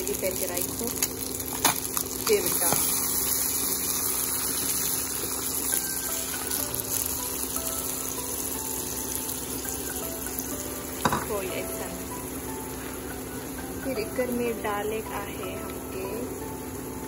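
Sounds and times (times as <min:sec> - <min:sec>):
fish sizzling in a pan: 0:00.0 - 0:17.0.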